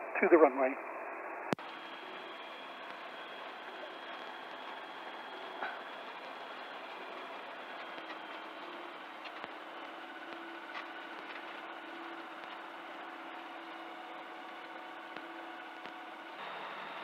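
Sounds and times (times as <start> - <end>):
light aircraft engine humming: 0.0 - 17.0.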